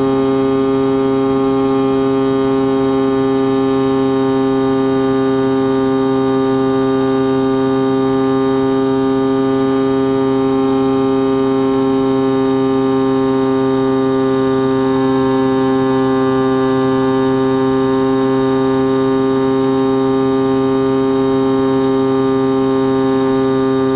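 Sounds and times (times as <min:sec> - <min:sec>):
propeller motor droning: 0:00.0 - 0:23.9
thin high whine: 0:00.0 - 0:23.9.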